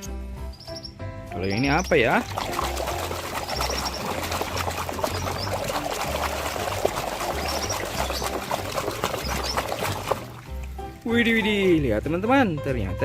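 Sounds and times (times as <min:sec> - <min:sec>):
water pouring and splashing: 0:01.4 - 0:12.3.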